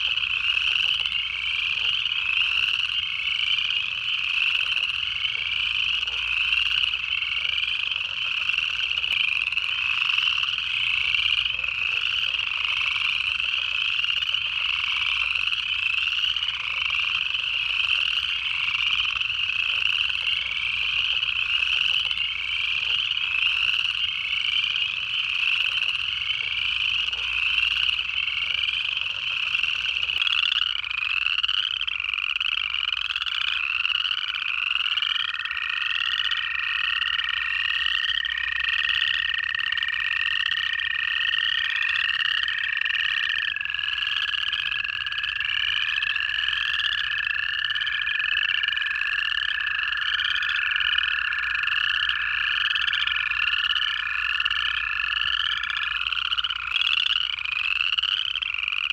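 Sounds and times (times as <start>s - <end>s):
chorus frogs ascending trills: 0.0s - 58.9s
toads long steady trills: 0.0s - 58.9s.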